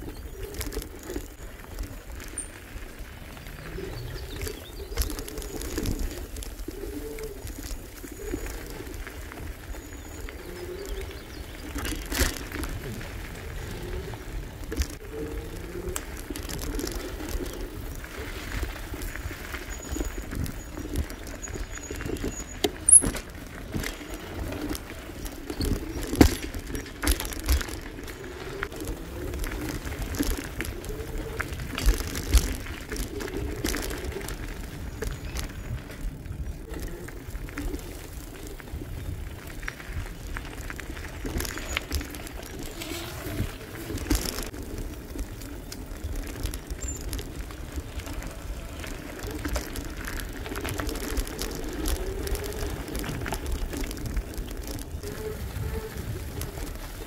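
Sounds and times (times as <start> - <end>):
bicycle tyres rolling: 0.0 - 57.0
bike clicking and rattling: 0.0 - 57.0.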